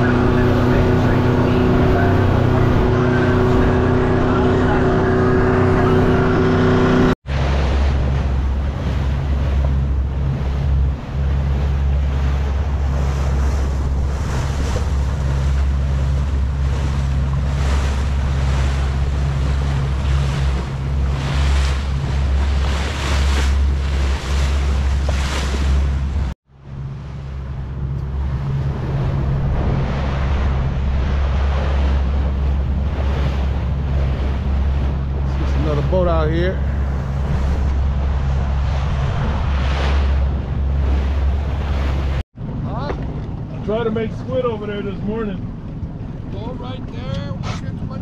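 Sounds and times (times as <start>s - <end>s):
motorboat engine drone: 0.0s - 48.0s
water rushing past hull: 0.0s - 48.0s
wind buffeting microphone: 0.0s - 48.0s.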